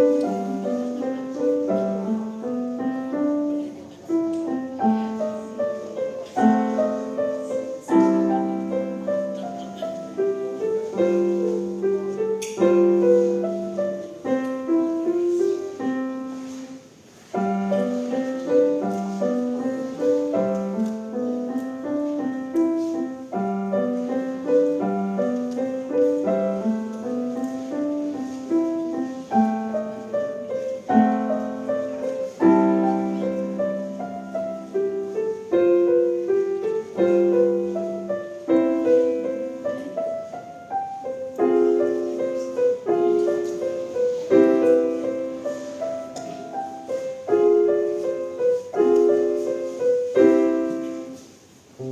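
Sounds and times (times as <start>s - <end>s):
grand piano classical piece: 0.0s - 51.9s.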